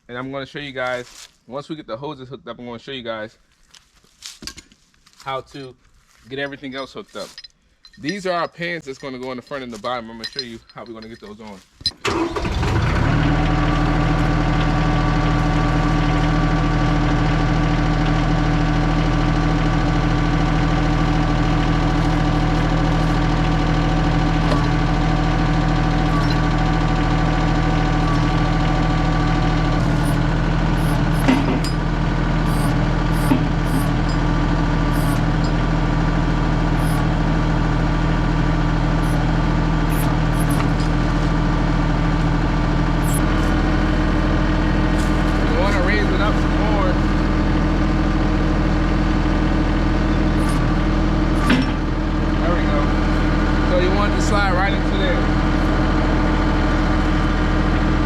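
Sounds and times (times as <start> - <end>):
tractor diesel engine idling: 8.0 - 58.0.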